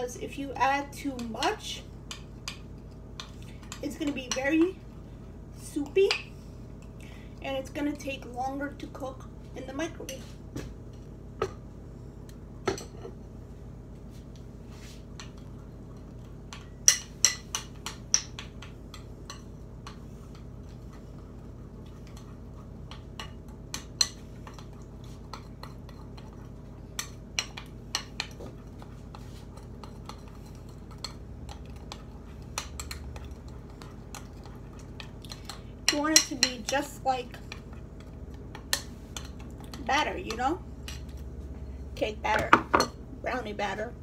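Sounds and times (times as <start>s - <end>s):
low background hum: 0.0s - 44.0s.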